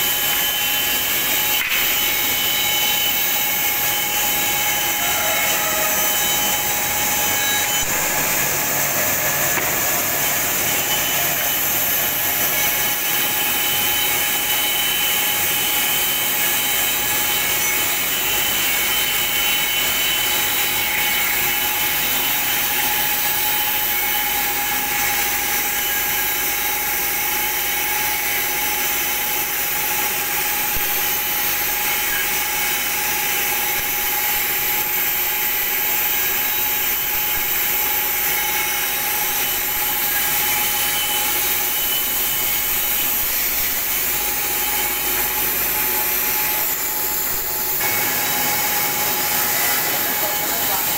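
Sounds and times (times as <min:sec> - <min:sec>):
machine whine: 0:00.0 - 0:50.9
planing machine running: 0:00.0 - 0:50.9.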